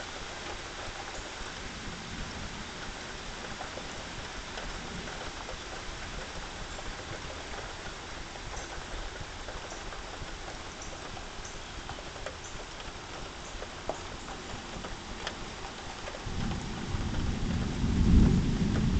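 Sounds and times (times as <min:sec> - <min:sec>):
raindrops ticking close by: 0:00.0 - 0:18.9
steady rain hiss: 0:00.0 - 0:18.9.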